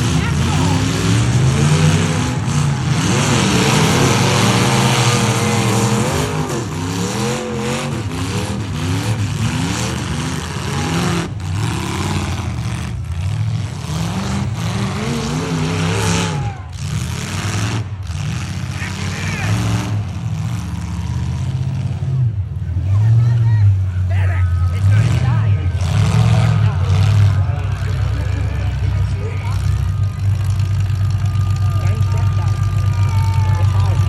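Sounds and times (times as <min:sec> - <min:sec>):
engines running: 0:00.0 - 0:34.0
truck engines revving: 0:00.0 - 0:34.0.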